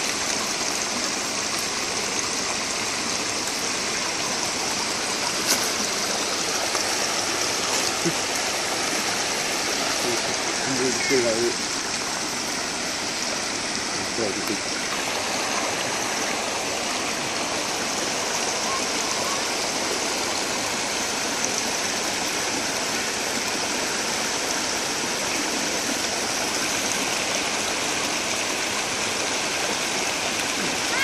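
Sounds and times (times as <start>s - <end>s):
creek water rushing over log: 0.0s - 31.0s.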